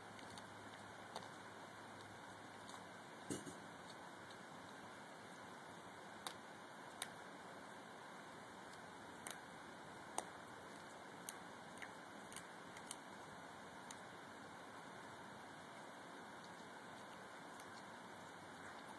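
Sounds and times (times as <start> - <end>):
cat crunching on mouse: 0.0 - 7.8, 8.5 - 18.9
faint steady hiss: 0.0 - 18.9.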